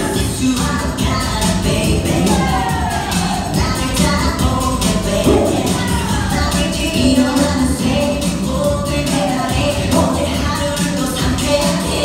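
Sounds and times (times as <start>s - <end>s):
pop dance song with vocals: 0.0s - 12.0s.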